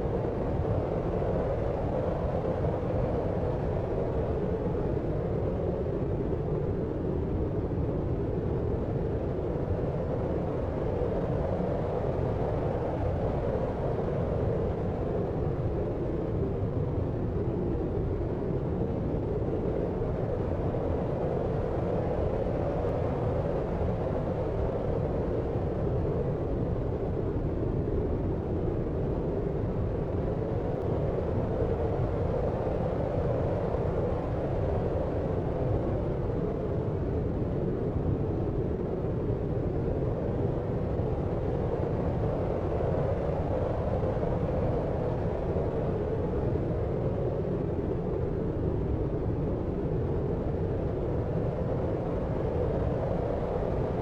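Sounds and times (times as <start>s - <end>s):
low steady rushing noise: 0.0s - 54.0s.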